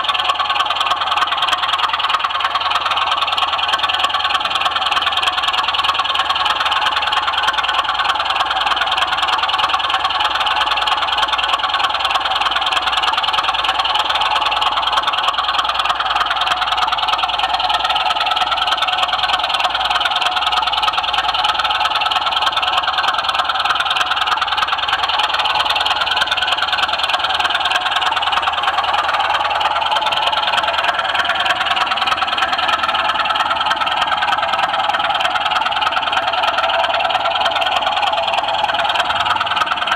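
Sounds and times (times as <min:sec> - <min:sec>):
model train rolling and rattling: 0:00.0 - 0:39.9.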